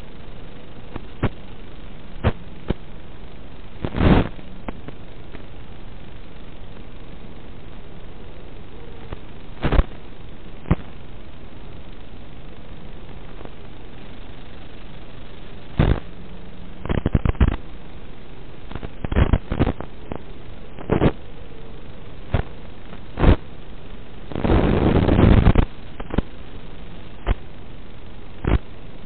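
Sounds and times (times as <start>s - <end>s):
crackling bursts of noise: 0.0s - 29.0s
video receiver static hiss: 0.0s - 29.0s.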